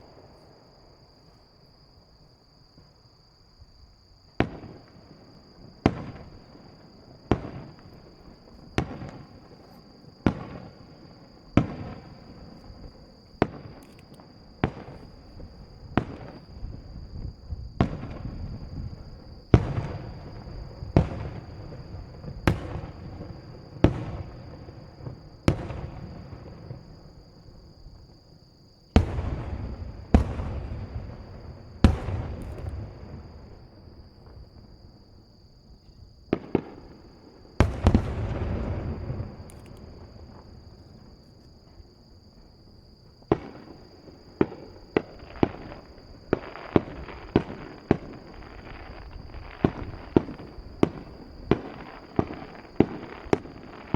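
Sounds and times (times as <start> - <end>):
distant firework bursts: 4.4 - 35.2, 36.3 - 41.2, 43.2 - 53.9.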